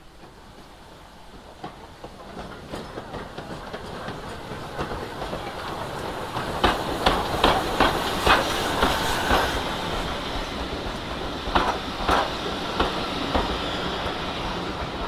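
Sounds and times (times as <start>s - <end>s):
train wheels clicking over rail joints: 0.0s - 15.0s.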